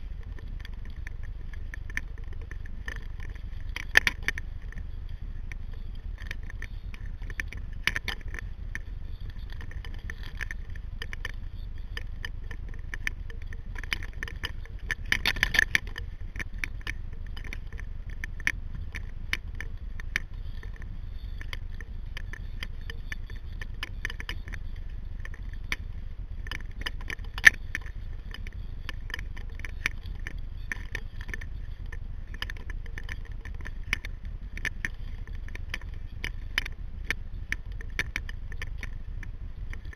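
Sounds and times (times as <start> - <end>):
kayak clicks and scrapes: 0.0 - 39.9
steady low rumble: 0.0 - 39.9.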